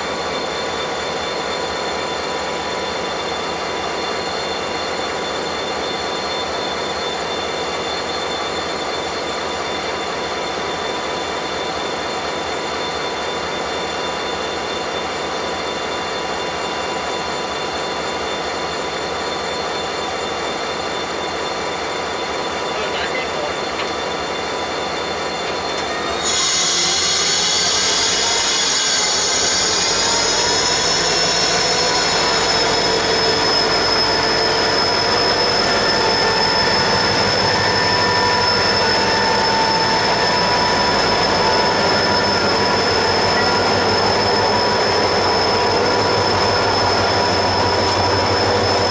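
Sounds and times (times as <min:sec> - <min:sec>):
freight train rolling: 0:00.0 - 0:48.9
train wheels squealing on rails: 0:00.0 - 0:48.9.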